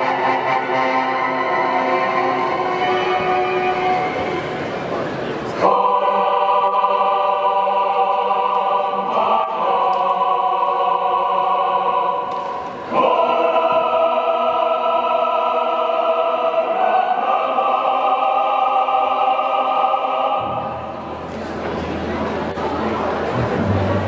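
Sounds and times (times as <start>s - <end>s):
choir singing held chords: 0.0s - 21.4s.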